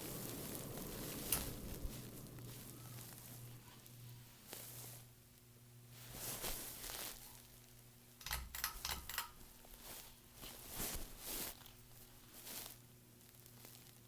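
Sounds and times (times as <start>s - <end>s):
ceiling fan motor hum: 0.0s - 14.0s.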